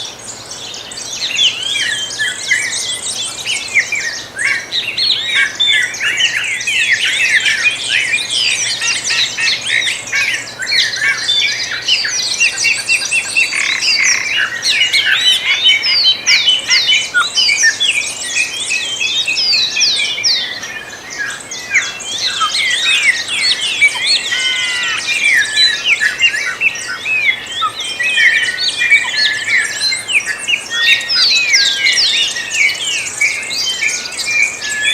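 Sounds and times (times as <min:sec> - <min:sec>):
songbirds singing and chirping: 0:00.0 - 0:34.9.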